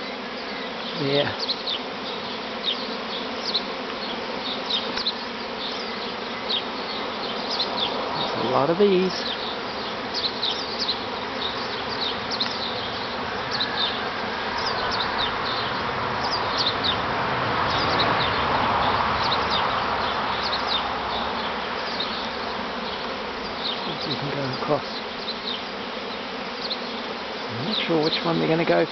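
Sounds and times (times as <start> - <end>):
bee swarm buzzing: 0.0 - 28.9.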